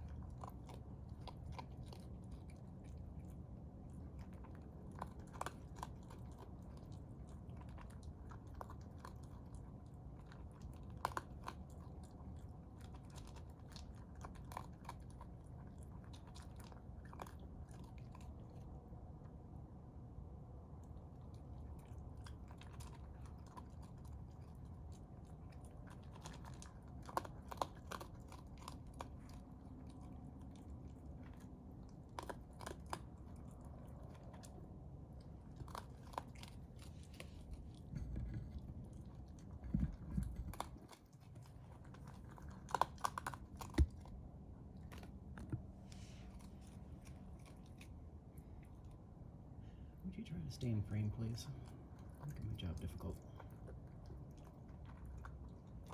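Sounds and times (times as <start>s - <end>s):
raccoon chewing and crunching food: 0.0s - 55.9s
steady low hum: 0.0s - 55.9s.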